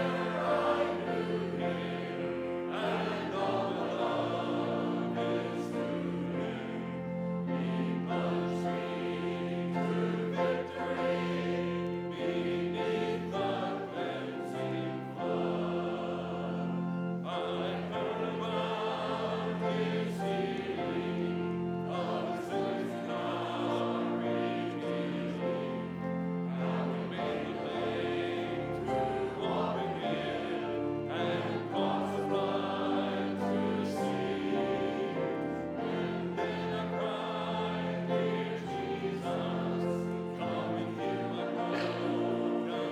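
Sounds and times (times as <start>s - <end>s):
choir singing: 0.0s - 42.9s
instrumental accompaniment: 0.0s - 42.9s.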